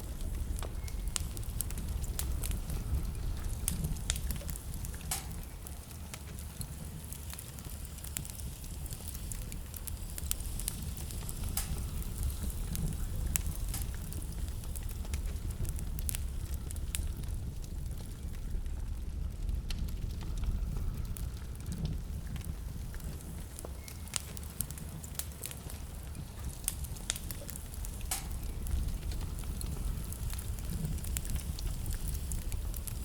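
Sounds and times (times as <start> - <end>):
low rumble of fire: 0.0 - 33.0
wood fire crackling and popping: 0.0 - 33.0.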